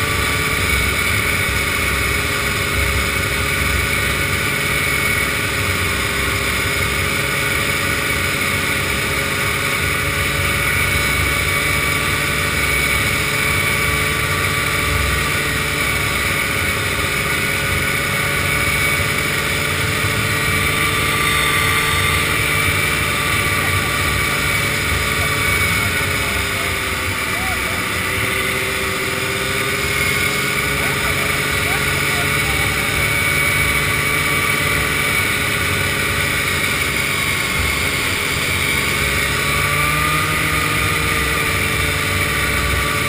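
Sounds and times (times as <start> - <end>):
snowmobile engine running: 0.0 - 43.0.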